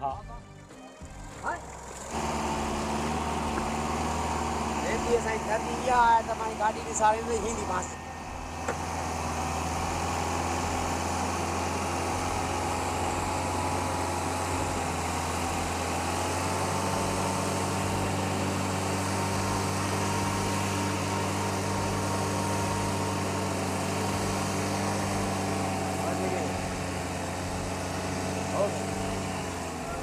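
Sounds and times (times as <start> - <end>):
car engine running under load: 1.0 - 30.0.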